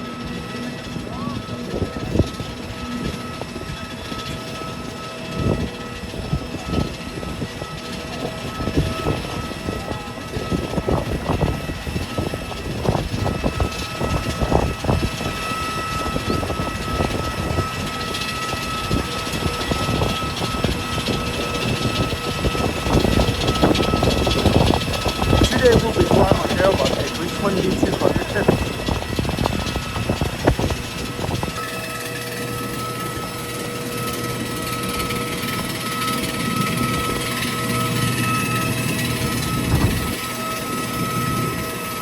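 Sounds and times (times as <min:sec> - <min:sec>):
jet engine high whine: 0:00.0 - 0:42.0.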